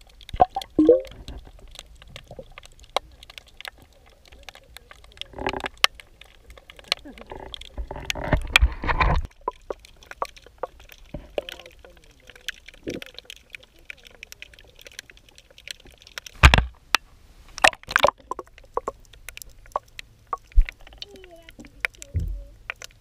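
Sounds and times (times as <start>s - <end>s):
underwater clicks and knocks: 0.0s - 23.0s.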